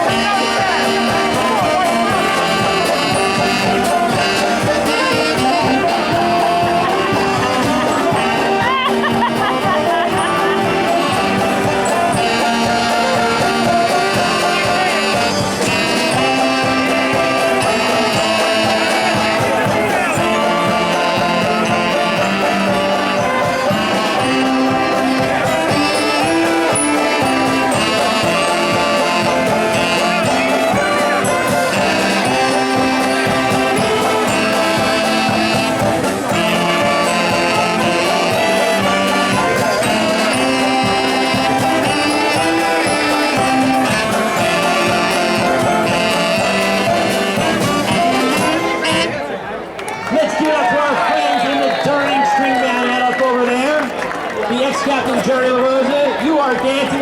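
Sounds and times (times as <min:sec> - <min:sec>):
string band playing lively tune: 0:00.0 - 0:57.0.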